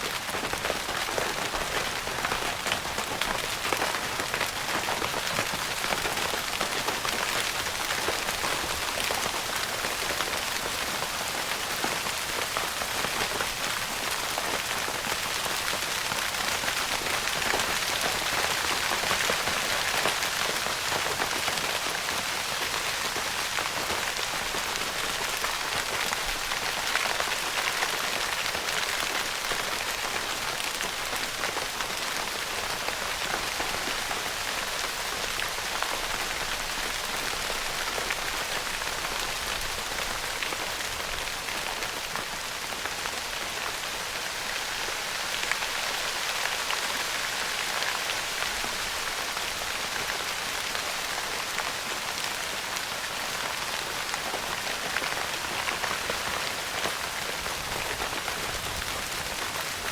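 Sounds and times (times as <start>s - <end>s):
rain pattering on tent fabric: 0.0s - 59.9s.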